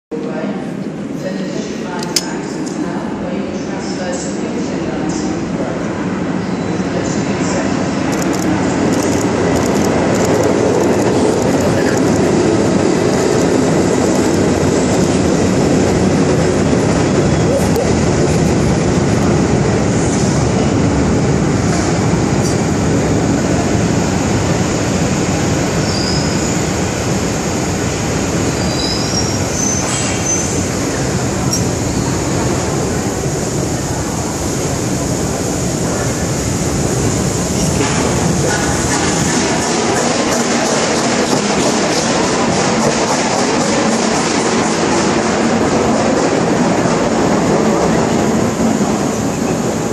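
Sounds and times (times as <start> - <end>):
train wheels rolling on rail: 7.0 - 49.9.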